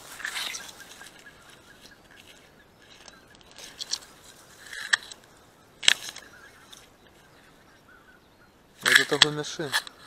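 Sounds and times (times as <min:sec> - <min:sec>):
dry stalks rustling and crackling: 0:00.0 - 0:10.0.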